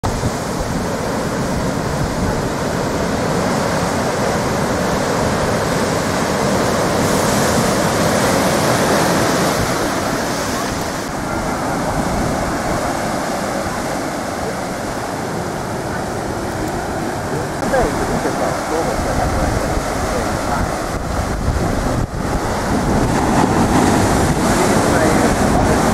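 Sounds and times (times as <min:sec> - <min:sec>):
heavy ocean waves breaking: 0:00.0 - 0:25.9.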